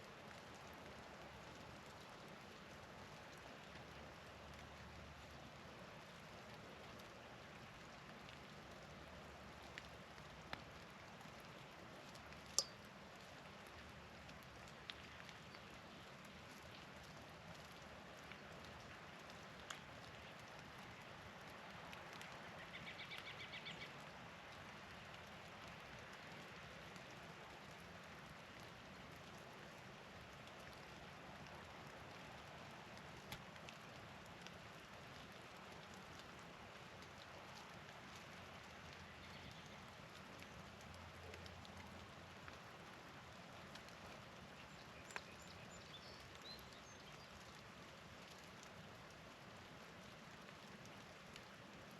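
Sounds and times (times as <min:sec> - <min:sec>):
sharp drips and ticks: 0:00.0 - 0:51.9
wet snow or rain patter: 0:00.0 - 0:51.9.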